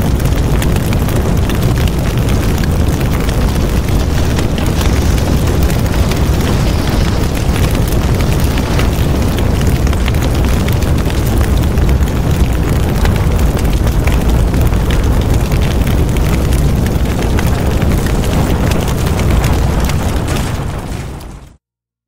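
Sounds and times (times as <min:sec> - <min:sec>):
large fire rumbling and crackling: 0:00.0 - 0:21.6.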